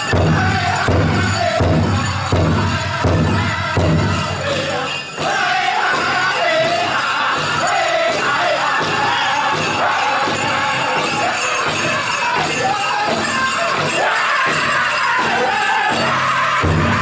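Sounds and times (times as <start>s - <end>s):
big drum beats: 0.0s - 17.0s
men singing in unison: 0.0s - 17.0s.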